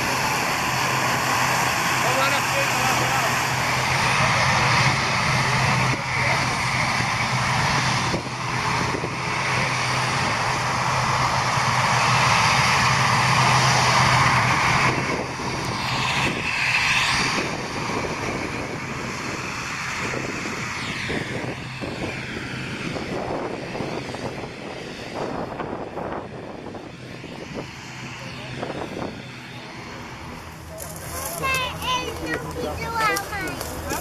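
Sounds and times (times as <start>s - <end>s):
broad rushing noise: 0.0s - 34.0s
turboprop engines droning: 0.0s - 34.0s.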